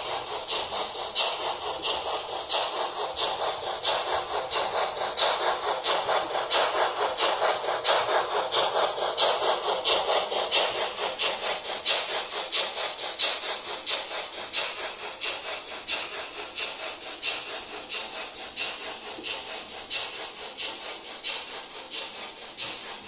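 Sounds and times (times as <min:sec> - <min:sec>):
model steam locomotive chuffing: 0:00.0 - 0:23.0.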